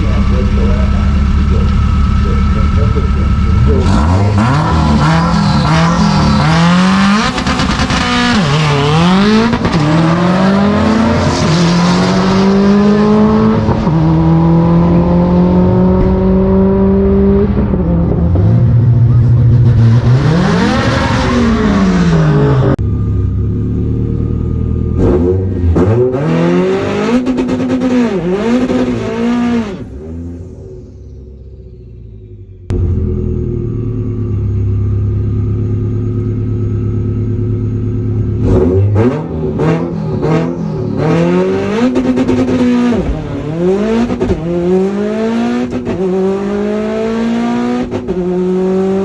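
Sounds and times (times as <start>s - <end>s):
car engine accelerating hard: 0.0s - 49.0s
engine throttle blips: 0.0s - 49.0s.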